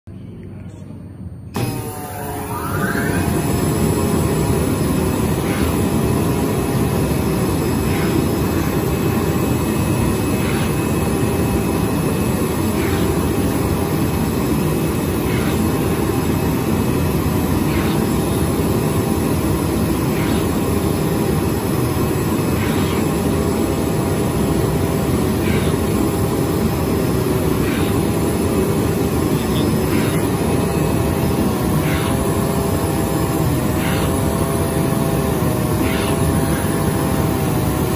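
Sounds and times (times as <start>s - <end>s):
faint machine whine: 0.0s - 37.9s
cutting machine drone: 1.5s - 37.9s.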